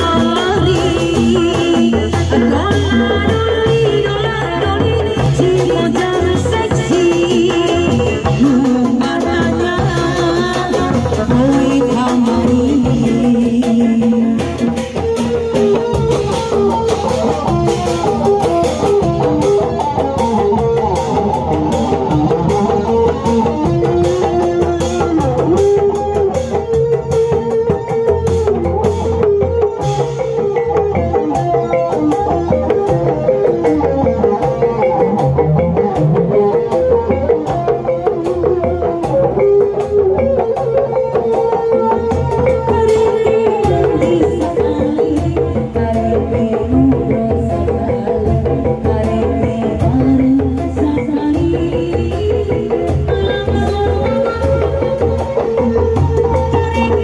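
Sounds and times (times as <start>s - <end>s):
hand drums beating: 0.0s - 57.0s.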